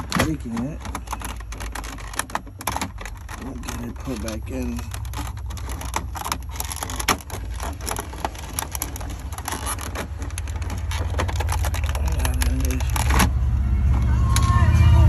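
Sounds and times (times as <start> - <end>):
hard plastic clicks and rattles: 0.0 - 13.3.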